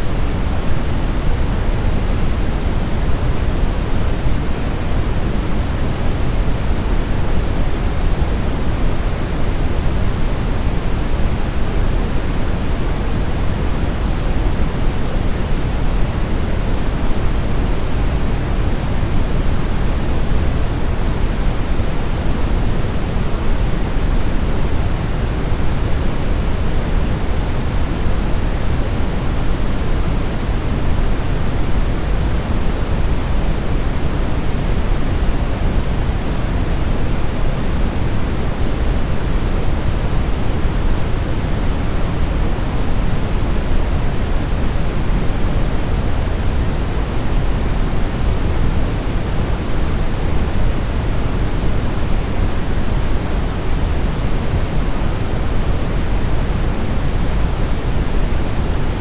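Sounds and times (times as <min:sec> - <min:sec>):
brown noise hiss: 0:00.0 - 0:59.0.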